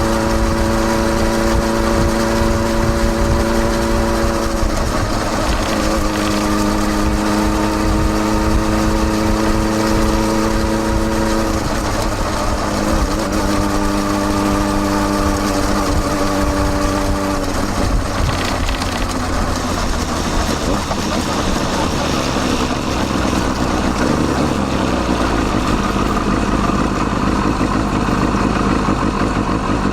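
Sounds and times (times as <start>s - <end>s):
motorcycle engine through exhaust: 0.0s - 29.9s.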